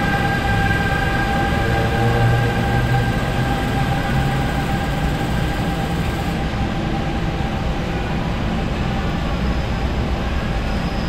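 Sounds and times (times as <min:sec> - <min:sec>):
electric locomotive inverter whine: 0:00.0 - 0:11.0
train coaches rumbling past: 0:00.0 - 0:11.0.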